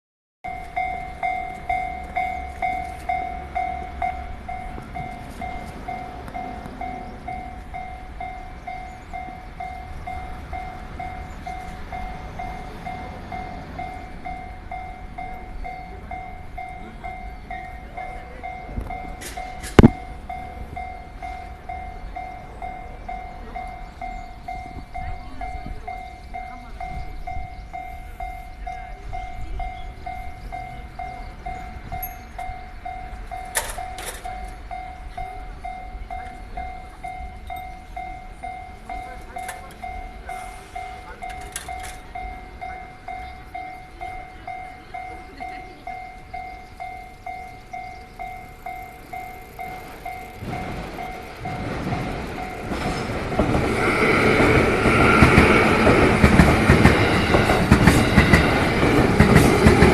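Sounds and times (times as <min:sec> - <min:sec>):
crossing warning bell ringing: 0:00.4 - 0:59.9
train running noise: 0:00.4 - 0:59.9.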